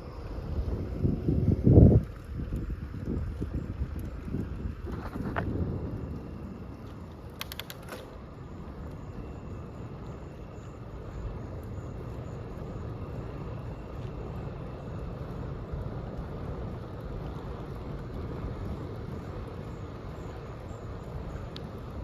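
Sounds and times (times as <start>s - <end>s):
bicycle tyres rolling on pavement: 0.0s - 22.0s
wind rumble on microphone: 0.0s - 22.0s.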